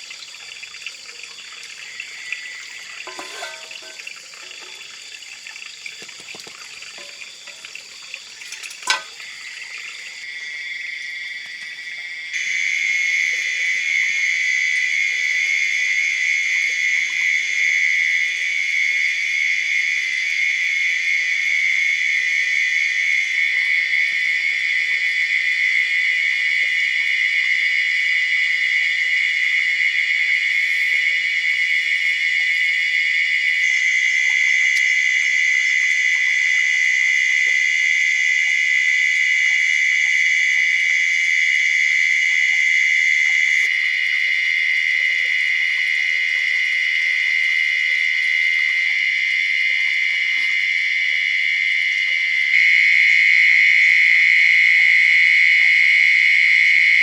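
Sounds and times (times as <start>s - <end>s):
forest insects trilling: 0.0s - 57.0s.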